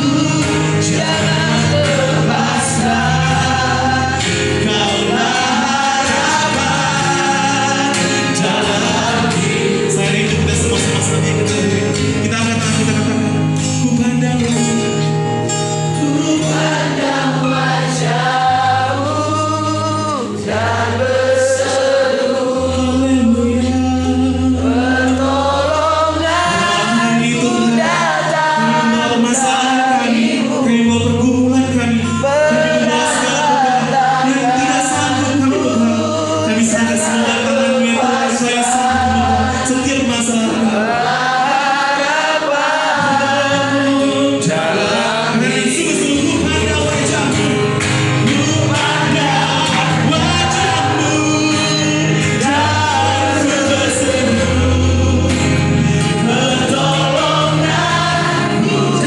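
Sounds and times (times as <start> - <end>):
instrumental backing with bass: 0.0 - 59.0
person singing worship song: 0.0 - 59.0.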